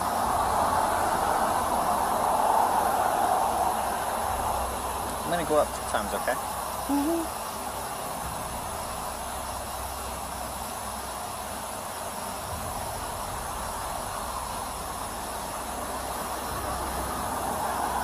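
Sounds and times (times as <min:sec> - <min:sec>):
roadside hum and hiss: 0:00.0 - 0:18.0.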